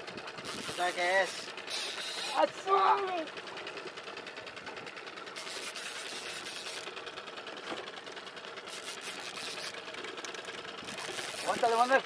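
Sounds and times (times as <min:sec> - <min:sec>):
fishing reel cranking: 0:00.0 - 0:12.0.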